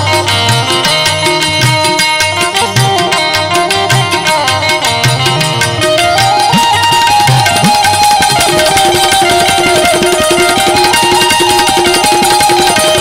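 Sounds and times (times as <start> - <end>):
busy percussion: 0.0 - 13.0
harmonium melody: 0.0 - 13.0.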